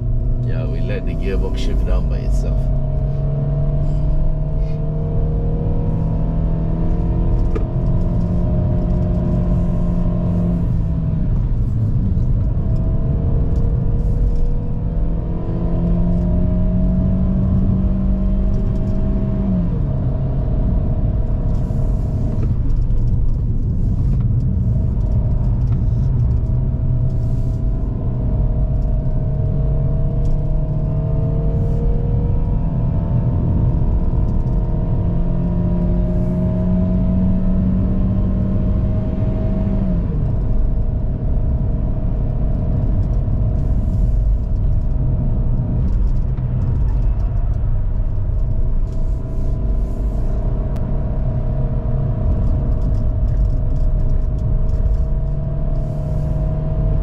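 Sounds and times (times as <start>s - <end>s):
car engine pulling uphill: 0.0s - 57.0s
road rumble: 0.0s - 57.0s.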